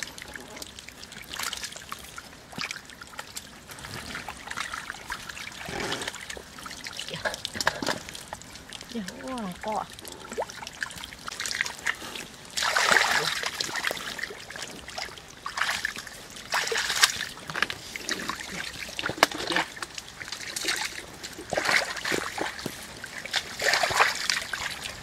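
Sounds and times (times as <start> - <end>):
muddy water splashing: 0.0 - 25.0
water trickling: 0.0 - 25.0.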